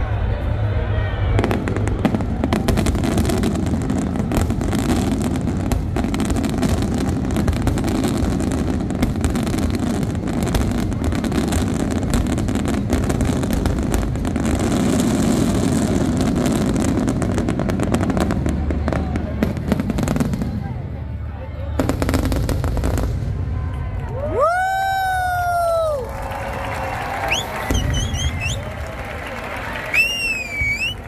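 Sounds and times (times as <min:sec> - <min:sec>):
sharp fireworks reports: 0:00.0 - 0:23.7, 0:27.2 - 0:31.0
fireworks bursting and crackling: 0:01.4 - 0:20.8, 0:21.8 - 0:23.7, 0:24.4 - 0:31.0.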